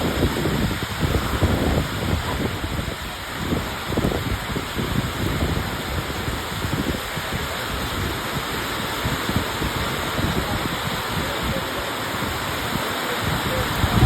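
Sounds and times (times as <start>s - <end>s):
heavy rain pouring: 0.0s - 14.0s
wind rumbling on microphone: 0.0s - 14.0s.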